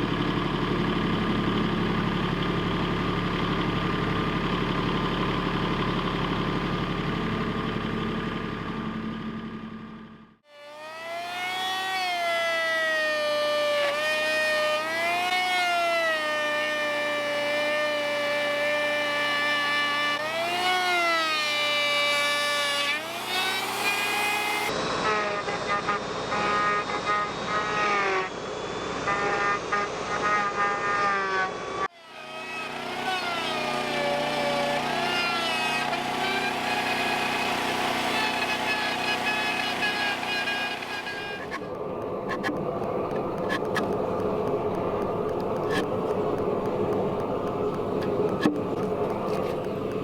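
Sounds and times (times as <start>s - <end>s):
tractor engine whining under load: 0.0s - 50.0s.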